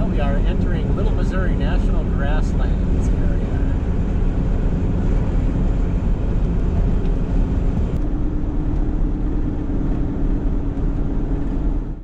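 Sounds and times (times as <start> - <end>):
steady hum: 0.0 - 12.0
van engine and road noise: 0.0 - 12.0.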